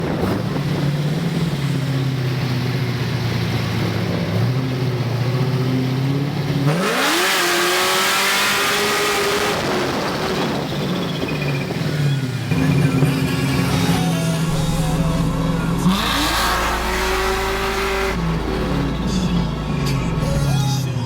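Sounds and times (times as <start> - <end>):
loud car engine idling and revving: 0.0 - 21.0.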